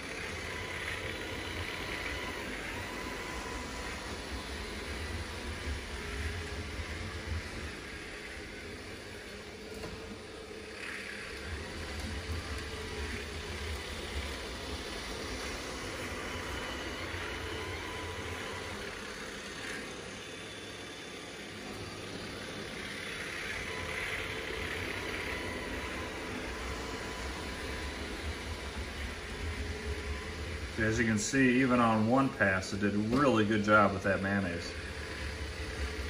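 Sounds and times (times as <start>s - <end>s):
robot vacuum motor hum: 0.0s - 36.0s.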